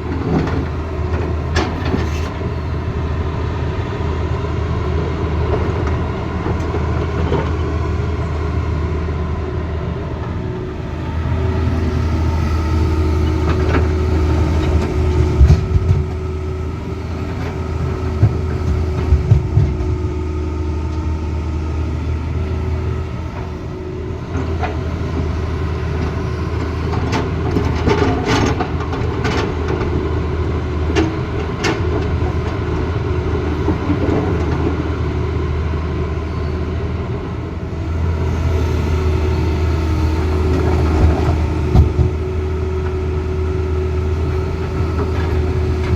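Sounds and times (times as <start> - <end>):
excavator diesel engine humming: 0.0 - 45.9.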